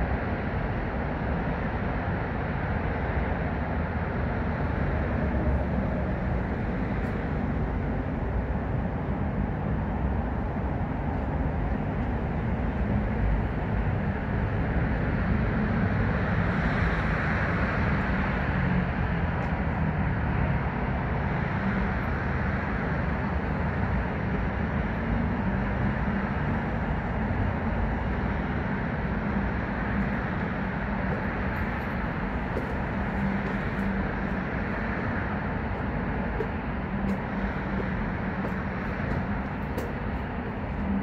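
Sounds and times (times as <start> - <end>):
city traffic rumble: 0.0 - 41.0.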